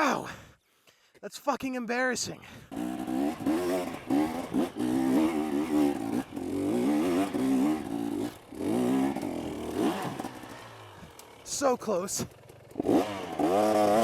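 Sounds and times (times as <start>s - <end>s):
dirt bike engine revving: 2.7s - 14.0s.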